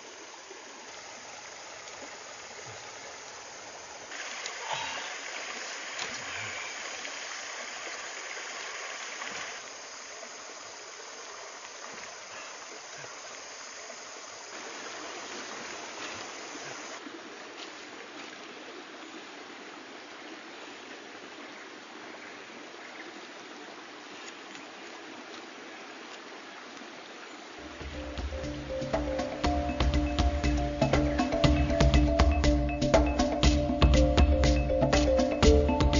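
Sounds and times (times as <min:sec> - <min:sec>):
stream flowing over rocks: 0:00.0 - 0:35.9.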